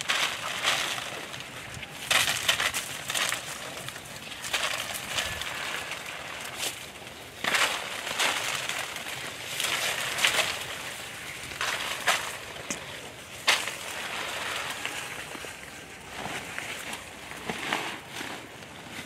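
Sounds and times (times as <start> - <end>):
footsteps crunching dry vegetation: 0.0 - 19.0.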